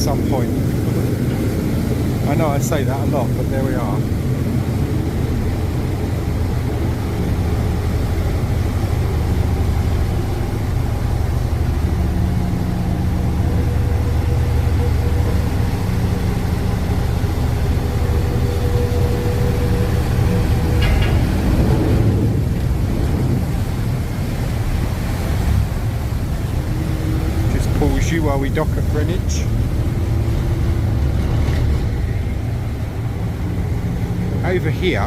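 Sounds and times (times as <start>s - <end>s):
boat engines droning: 0.0s - 35.0s
faint humming tones: 0.0s - 35.0s.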